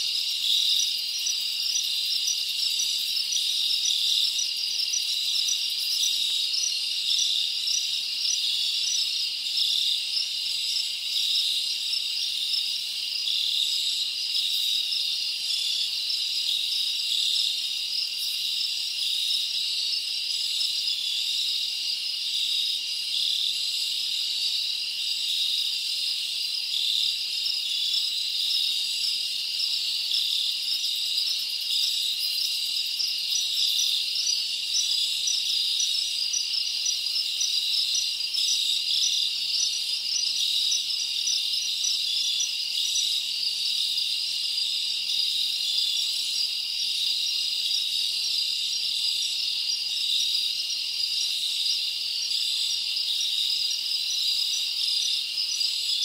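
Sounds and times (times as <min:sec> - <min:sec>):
insects trilling and chirping: 0:00.0 - 0:56.0.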